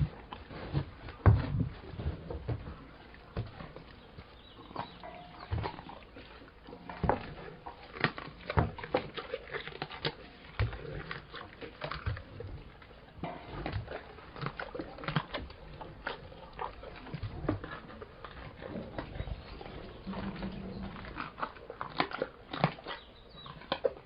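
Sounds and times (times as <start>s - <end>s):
lion chewing and crunching: 0.0s - 24.0s.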